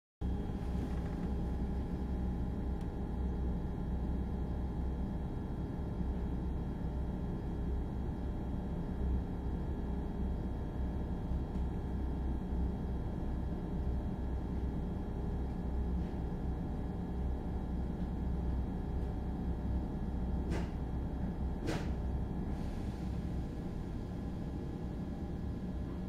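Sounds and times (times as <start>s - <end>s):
low rumble: 0.2s - 7.1s, 9.7s - 26.0s
train onboard equipment hum: 0.2s - 26.0s.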